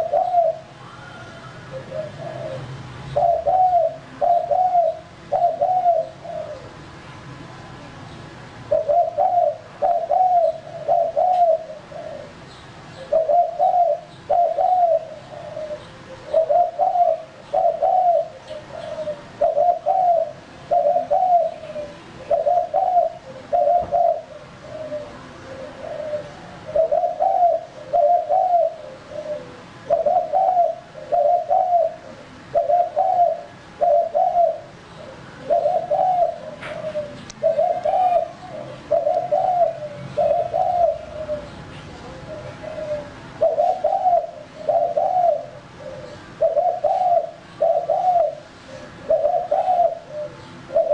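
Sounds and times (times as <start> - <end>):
dove cooing: 0.0 - 6.8, 8.7 - 50.9.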